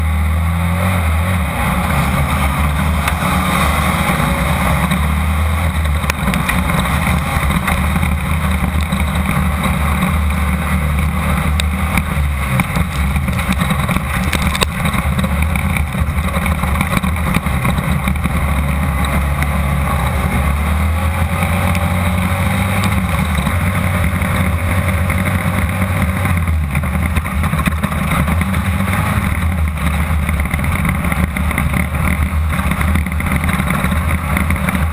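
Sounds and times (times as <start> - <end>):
race buggy engine droning: 0.0 - 34.9
knocks and rattles: 1.9 - 20.6, 21.3 - 34.9.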